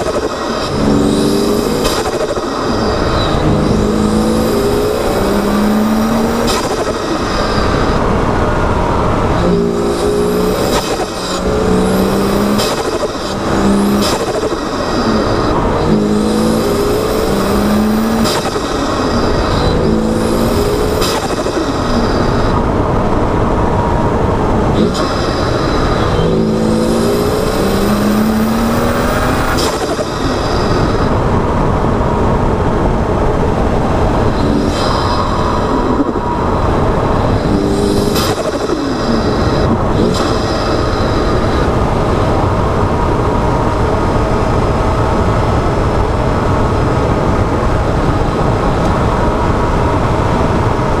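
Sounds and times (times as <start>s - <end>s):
car engine accelerating: 0.0s - 51.0s
exhaust crack at upshift: 0.0s - 51.0s
road noise: 0.0s - 51.0s.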